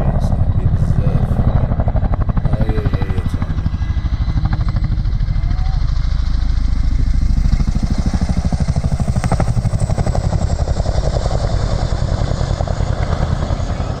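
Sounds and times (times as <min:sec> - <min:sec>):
helicopter rotor thumping: 0:00.0 - 0:14.0.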